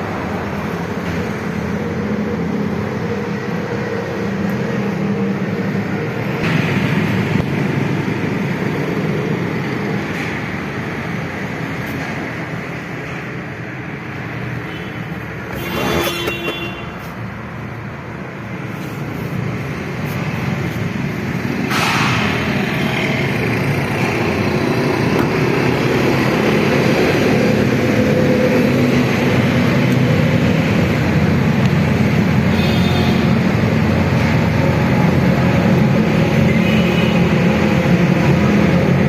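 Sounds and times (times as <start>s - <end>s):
vehicle engine and road noise: 0.0s - 39.0s.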